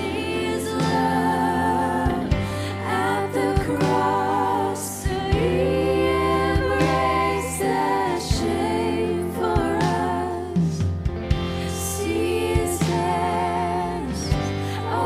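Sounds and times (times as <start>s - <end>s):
woman singing: 0.0s - 10.8s, 11.7s - 15.0s
low bass tone: 0.0s - 15.0s
sustained instrumental chords: 0.0s - 15.0s.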